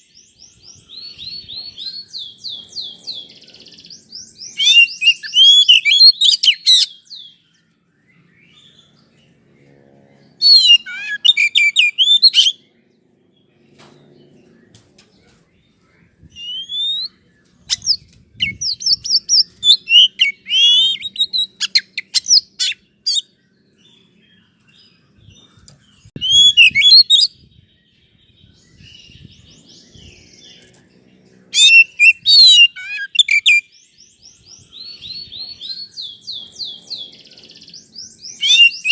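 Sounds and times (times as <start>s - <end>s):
bird whistling and chirping song: 0.0s - 9.2s, 10.3s - 12.7s, 15.5s - 30.8s, 31.5s - 38.9s.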